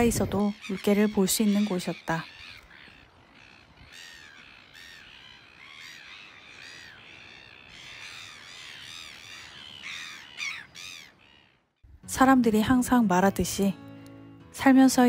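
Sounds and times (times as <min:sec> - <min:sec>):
gulls calling: 0:00.0 - 0:13.3.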